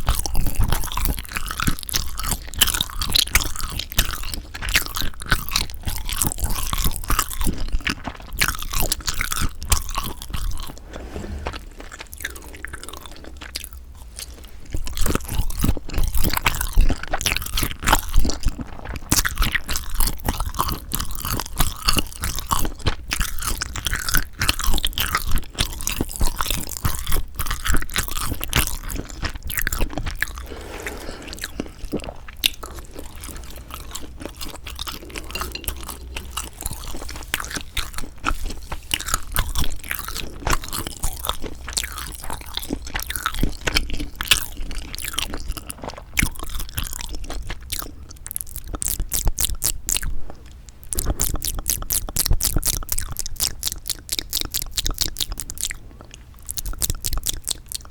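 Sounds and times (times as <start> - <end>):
close chewing and crunching: 0.0 - 57.9.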